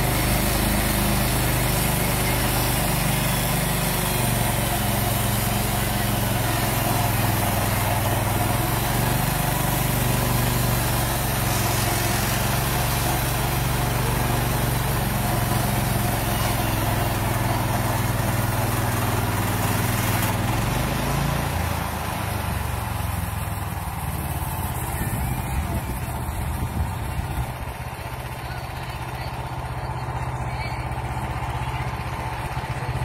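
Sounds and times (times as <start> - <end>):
small gasoline engine running: 0.0 - 33.0.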